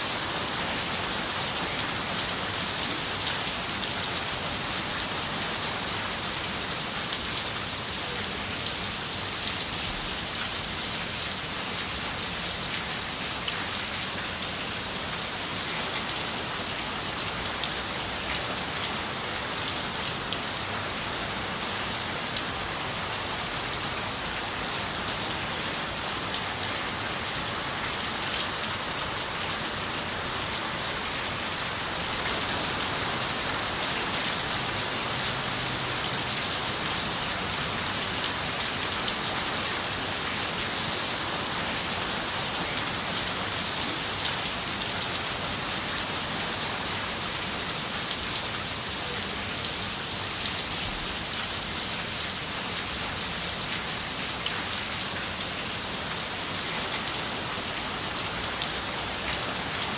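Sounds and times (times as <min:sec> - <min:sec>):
rain falling on a window: 0:00.2 - 0:30.4, 0:31.0 - 0:59.9.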